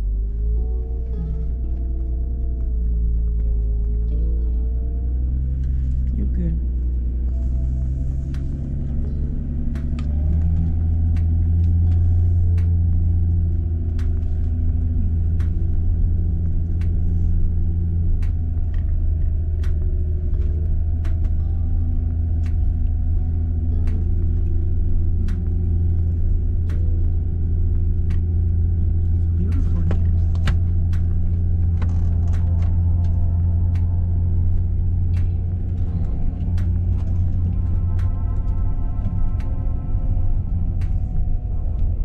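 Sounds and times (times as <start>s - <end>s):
engine and road rumble: 0.0s - 42.0s.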